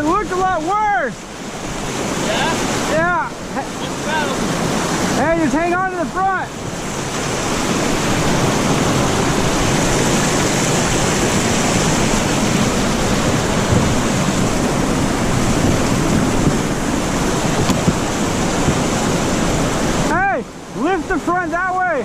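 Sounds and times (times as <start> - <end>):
river rapids rushing: 0.0 - 22.0.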